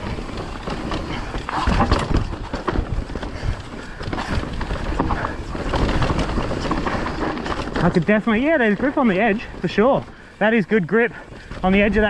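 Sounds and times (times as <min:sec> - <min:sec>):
suspension knocks and thuds: 0:00.0 - 0:10.1
bike tyres crunching over rocks: 0:00.0 - 0:12.0.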